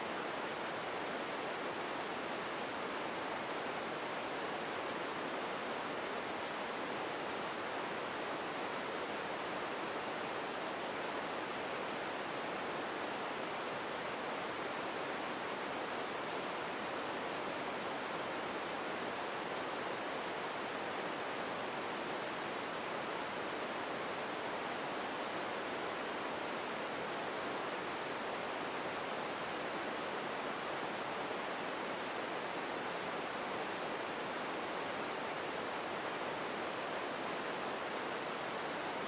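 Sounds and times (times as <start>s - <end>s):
steady ambient hiss: 0.0s - 39.0s.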